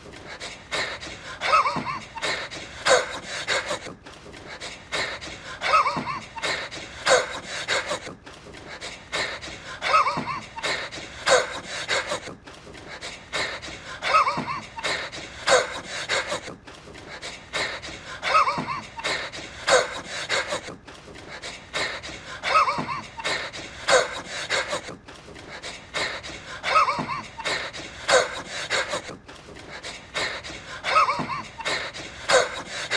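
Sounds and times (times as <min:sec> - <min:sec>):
man wheezing: 0:00.2 - 0:08.2, 0:08.8 - 0:32.9.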